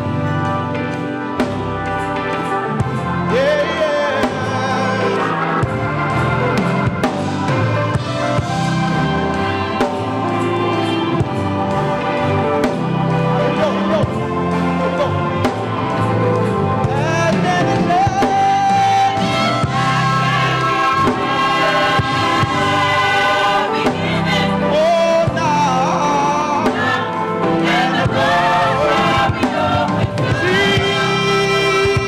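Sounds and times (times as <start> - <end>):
gospel choir singing: 0.0 - 32.0
instrumental accompaniment: 0.0 - 32.0
steady bass line: 0.0 - 32.0.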